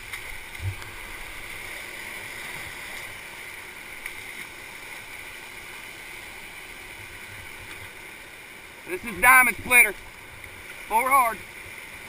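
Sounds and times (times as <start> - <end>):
whitewater rapids rushing: 0.0 - 12.0.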